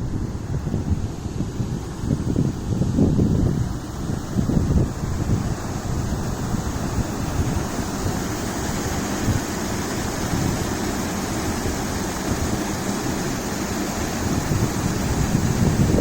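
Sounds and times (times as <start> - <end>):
flowing river water: 0.0 - 16.0
wind buffeting microphone: 0.0 - 16.0.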